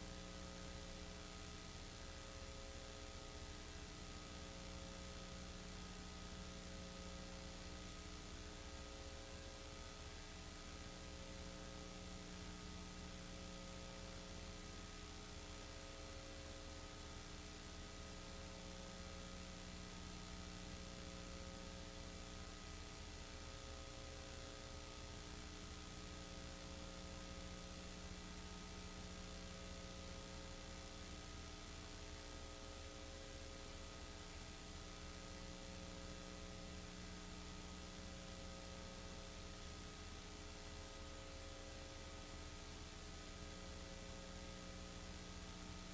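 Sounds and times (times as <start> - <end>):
electrical hum and hiss: 0.0 - 45.9.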